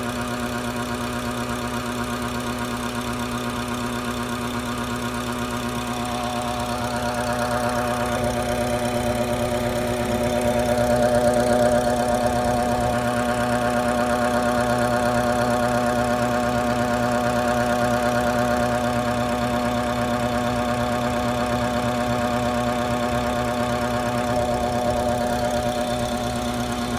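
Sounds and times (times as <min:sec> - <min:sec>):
car engine idling: 0:00.0 - 0:26.9
odd engine noise: 0:00.0 - 0:26.9.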